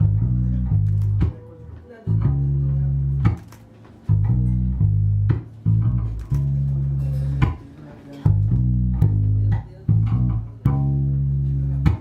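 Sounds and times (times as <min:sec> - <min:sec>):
held low bass notes: 0:00.0 - 0:12.0.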